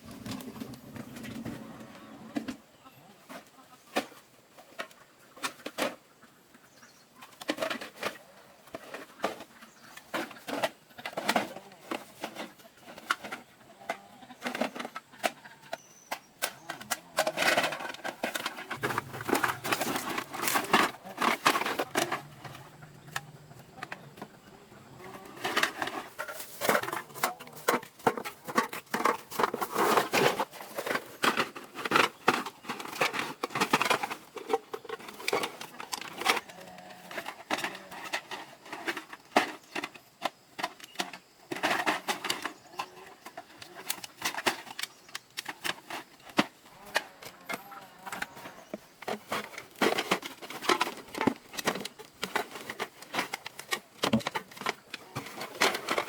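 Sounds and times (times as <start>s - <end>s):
rustling and scraping: 0.0s - 56.0s.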